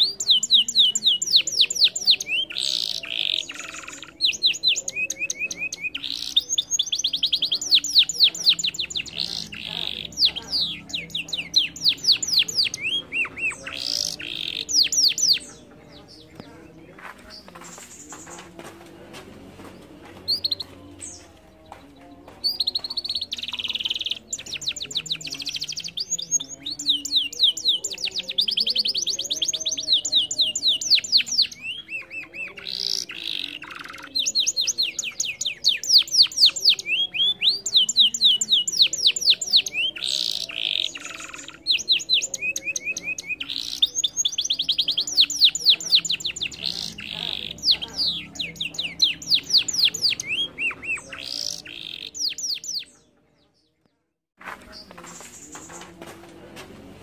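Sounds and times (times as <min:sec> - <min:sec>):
canary singing trills: 0:00.0 - 0:18.8, 0:19.6 - 0:53.9.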